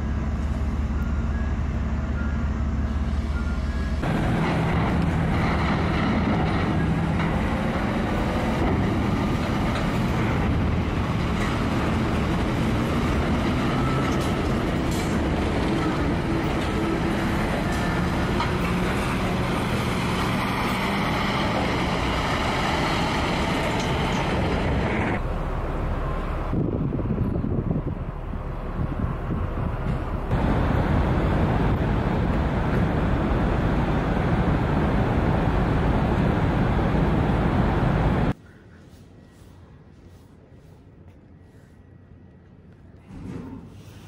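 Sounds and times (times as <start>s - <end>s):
diesel trucks driving past: 0.0s - 38.4s.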